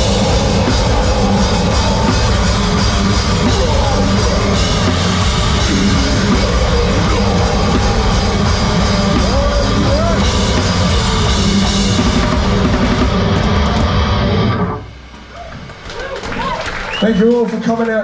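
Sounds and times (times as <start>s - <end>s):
drum kit: 0.0s - 15.1s
heavy rock band playing: 0.0s - 15.1s
distorted guitars: 0.0s - 15.9s.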